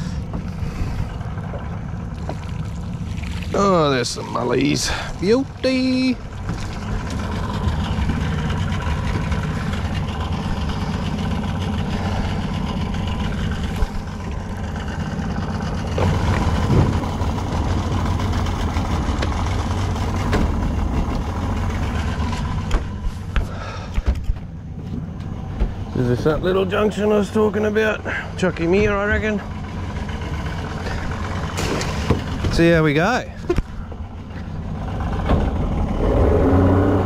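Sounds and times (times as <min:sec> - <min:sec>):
outboard motor droning: 0:00.0 - 0:37.0.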